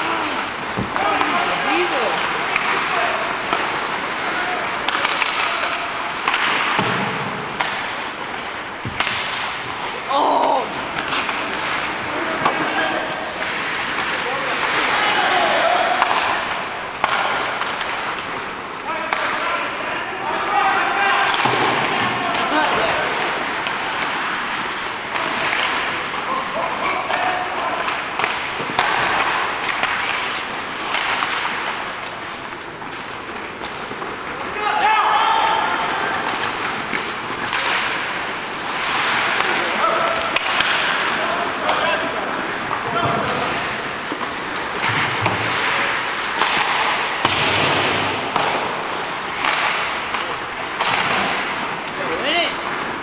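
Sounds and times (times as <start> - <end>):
spectators talking: 0.0 - 9.0, 9.8 - 32.6, 33.4 - 47.2
rink hubbub: 0.0 - 53.0
skate blades scraping ice: 0.0 - 53.0
sharp knocks of stick and puck: 0.7 - 9.9, 10.9 - 19.6, 21.2 - 34.1, 35.4 - 41.9, 42.5 - 52.0.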